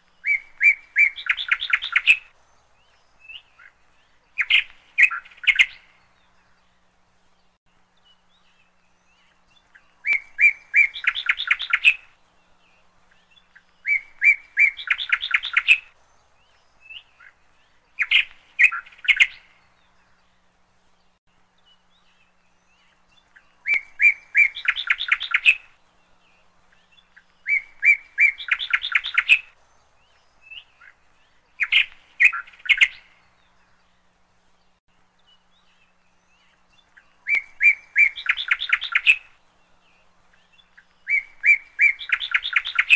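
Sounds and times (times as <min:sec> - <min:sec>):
bird chirping in trilled phrases: 0:00.0 - 0:42.9.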